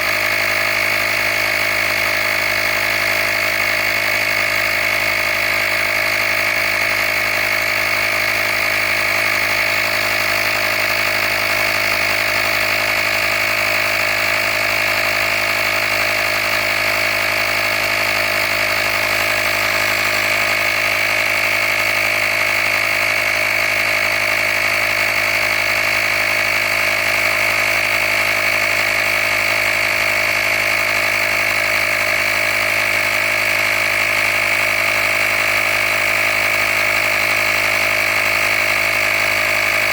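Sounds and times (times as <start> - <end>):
air compressor whining: 0.0 - 39.9.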